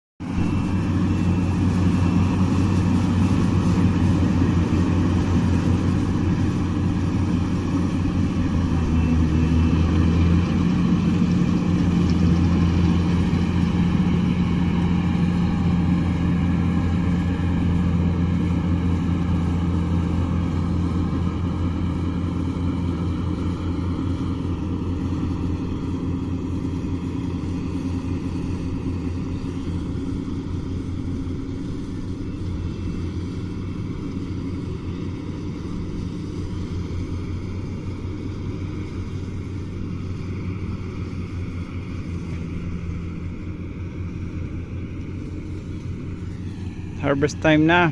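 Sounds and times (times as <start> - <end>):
diesel engine running under load: 0.2 - 47.9.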